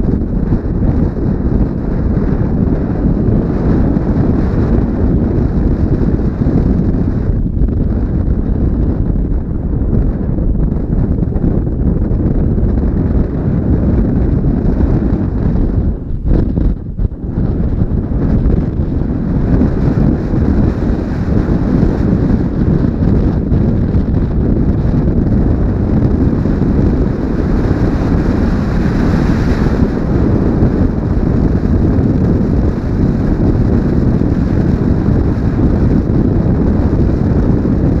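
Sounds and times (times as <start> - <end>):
wind buffeting a helmet microphone: 0.0 - 38.0.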